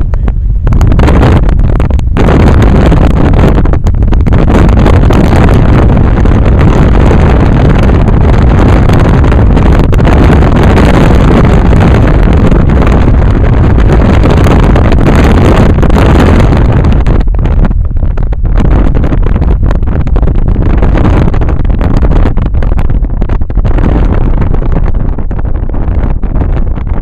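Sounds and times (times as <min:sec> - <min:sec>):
road noise: 0:00.0 - 0:27.0
wind buffeting microphone: 0:00.0 - 0:27.0.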